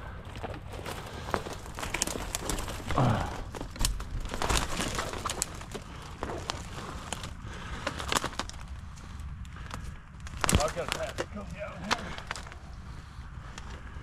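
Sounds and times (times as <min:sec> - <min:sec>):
twigs snapping and scraping: 0:00.0 - 0:14.0
dry leaves crackling underfoot: 0:00.7 - 0:13.0.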